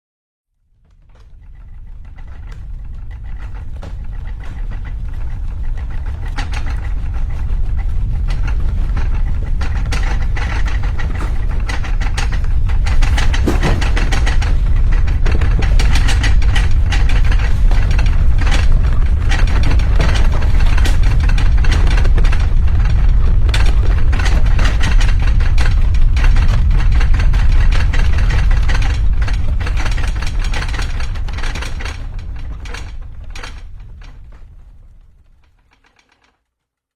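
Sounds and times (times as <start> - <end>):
deep earthquake rumble: 0.7 - 35.6
rattling and clattering: 0.7 - 36.4.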